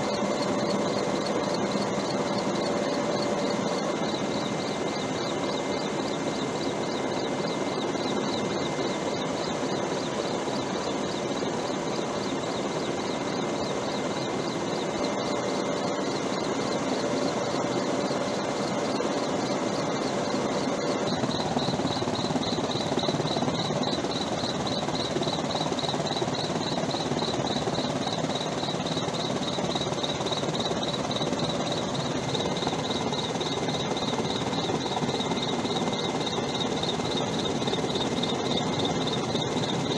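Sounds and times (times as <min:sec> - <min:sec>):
high fast-pulsing whine: 0:00.0 - 0:39.9.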